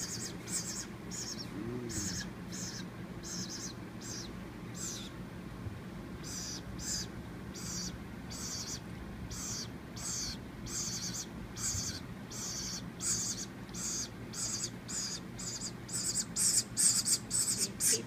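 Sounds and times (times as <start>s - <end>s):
nestling woodpecker begging calls: 0.0s - 5.2s, 6.2s - 18.0s.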